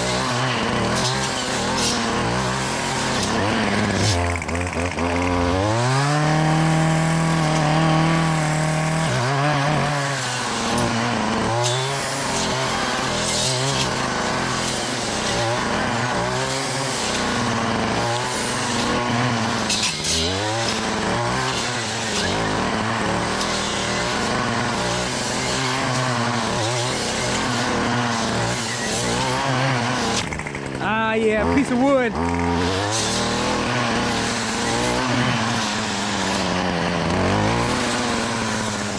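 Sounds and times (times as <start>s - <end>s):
brush cutter engine revving: 0.0s - 38.9s.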